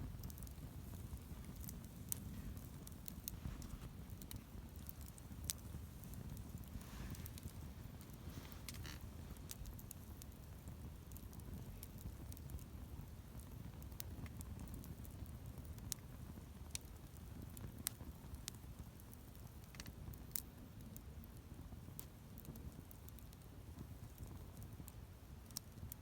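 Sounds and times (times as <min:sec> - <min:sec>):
campfire crackling and popping: 0:00.0 - 0:26.0
fire low rumble: 0:00.0 - 0:26.0.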